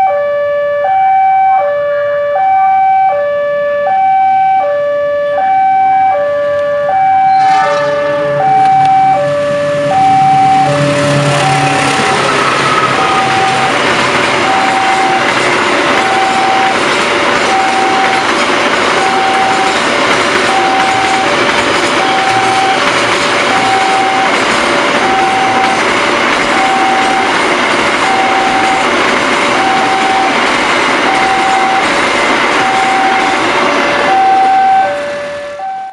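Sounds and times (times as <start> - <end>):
two-tone warning siren: 0.0 - 35.9
train passing with wheel noise: 6.4 - 35.9.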